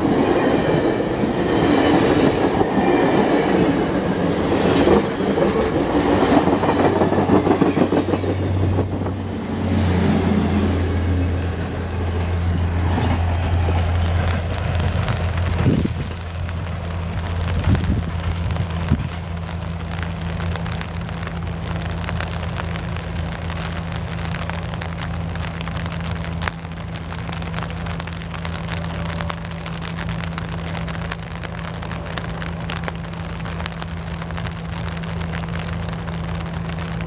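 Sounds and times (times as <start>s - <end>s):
rain falling: 0.0s - 37.0s
train engine drone: 0.0s - 37.0s.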